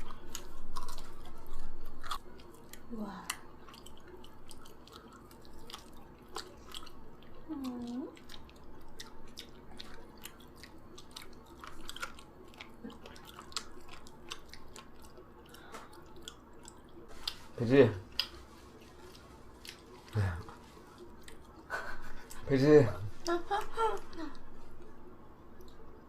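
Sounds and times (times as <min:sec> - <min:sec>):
chewing mouth sounds: 0:00.0 - 0:22.5.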